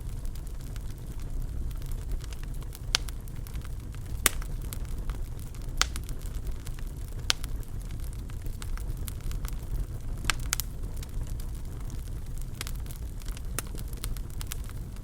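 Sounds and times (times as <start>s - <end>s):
fire crackling: 0.0s - 15.0s
sharp fire pops: 0.0s - 15.0s.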